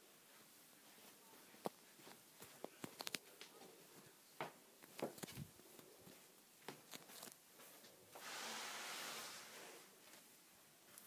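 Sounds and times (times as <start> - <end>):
soft rustling hiss: 0.0 - 11.0.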